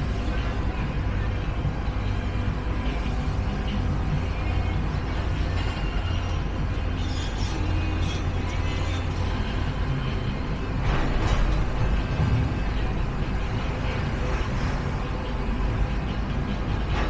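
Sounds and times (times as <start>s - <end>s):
faint music: 0.0s - 17.0s
low rumble of engines: 0.0s - 17.0s.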